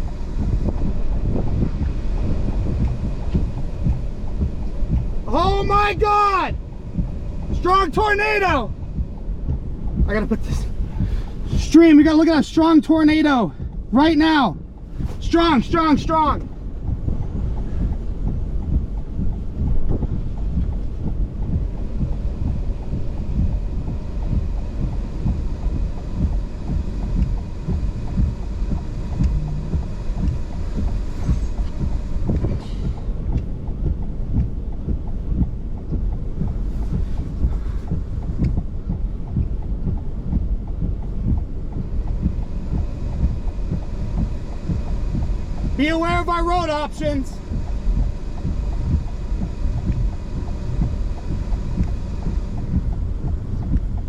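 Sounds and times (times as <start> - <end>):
gusty wind buffeting microphone: 0.0 - 54.0.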